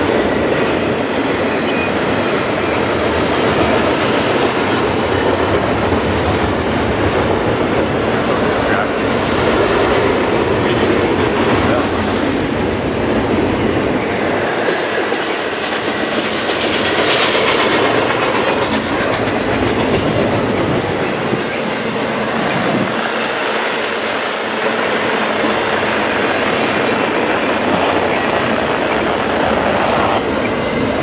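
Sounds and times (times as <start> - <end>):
high wheel squeal: 0.0 - 5.9, 6.5 - 12.6, 13.4 - 19.4, 20.0 - 31.0
freight train rumbling past: 0.0 - 31.0.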